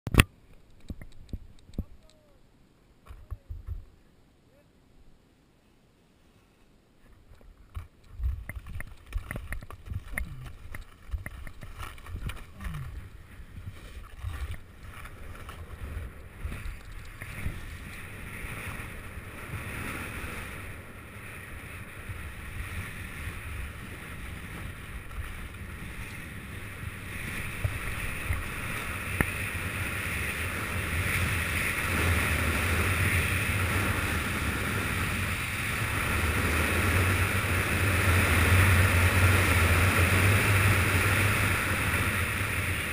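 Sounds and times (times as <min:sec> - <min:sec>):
wind rushing over microphone: 0:08.1 - 0:42.9.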